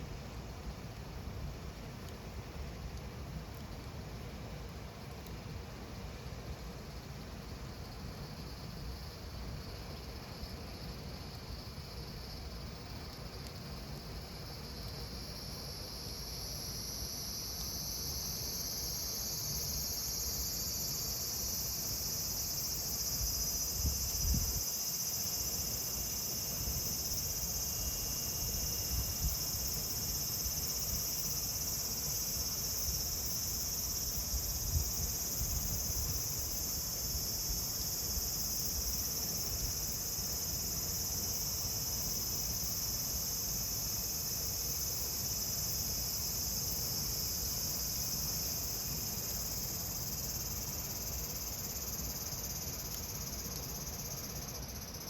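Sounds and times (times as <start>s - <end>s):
cicadas chorus: 0.0s - 55.0s.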